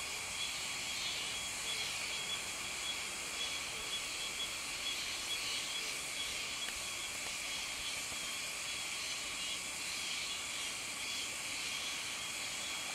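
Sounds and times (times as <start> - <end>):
high hiss: 0.0 - 12.9.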